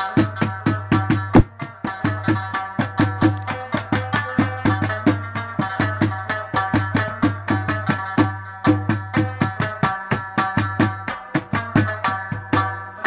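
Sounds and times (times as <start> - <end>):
plucked lute notes: 0.0 - 13.0.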